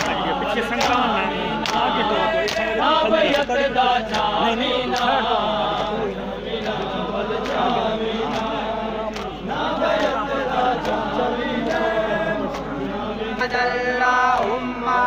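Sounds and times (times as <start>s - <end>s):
rhythmic chest-beating slaps: 0.0s - 14.7s
crowd of men chanting: 0.0s - 15.0s.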